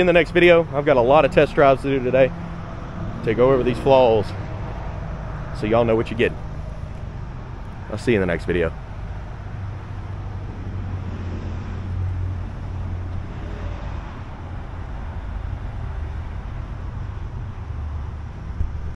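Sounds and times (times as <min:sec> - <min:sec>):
vehicle rumble: 0:00.0 - 0:19.0.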